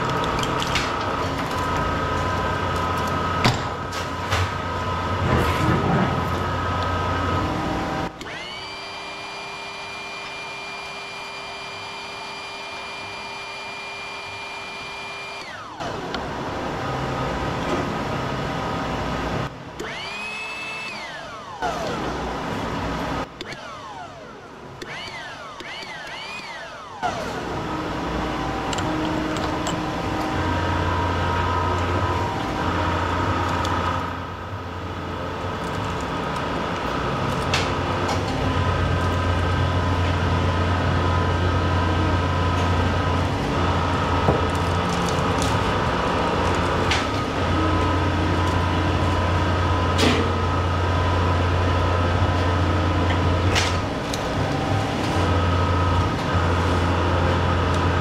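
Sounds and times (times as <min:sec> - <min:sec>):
motor whine: 0:00.0 - 0:58.0
shop machinery running: 0:00.0 - 0:58.0.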